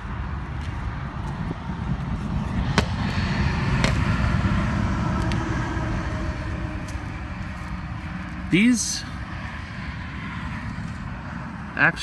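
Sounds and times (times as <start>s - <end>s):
vehicle rumbling past: 0.0s - 12.0s.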